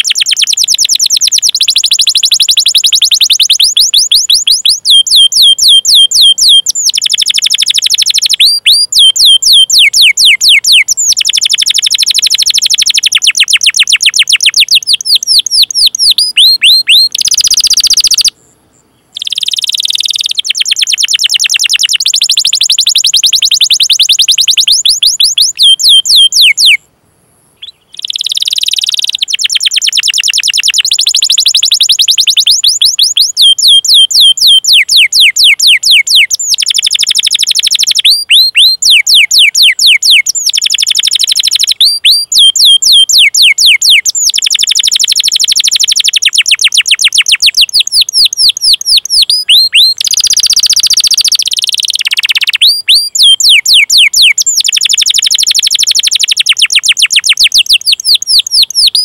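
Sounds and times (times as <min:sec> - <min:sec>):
canary singing trills: 0:00.0 - 0:26.8, 0:27.5 - 0:59.0.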